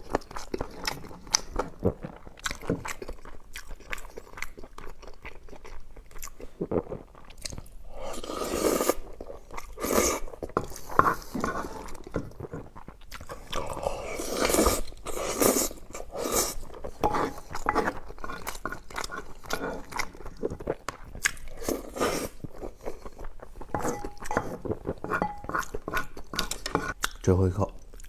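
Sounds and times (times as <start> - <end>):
crunching and chewing food: 0.0 - 28.0.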